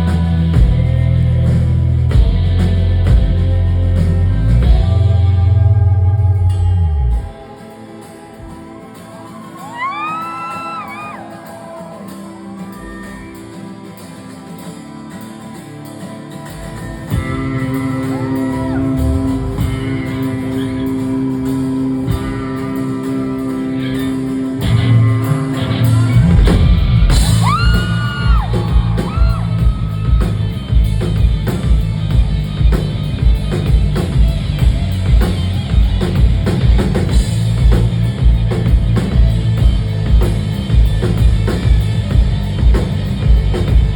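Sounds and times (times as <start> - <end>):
drums: 0.0 - 43.9
live rock band playing: 0.0 - 43.9.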